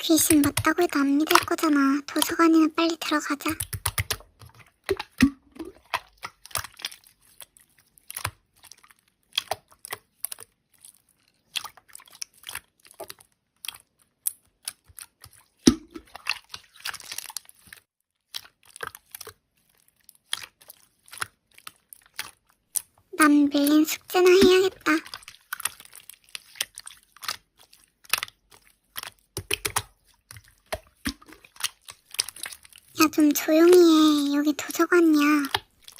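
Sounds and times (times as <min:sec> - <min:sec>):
slime squished by hand: 0:00.1 - 0:35.9.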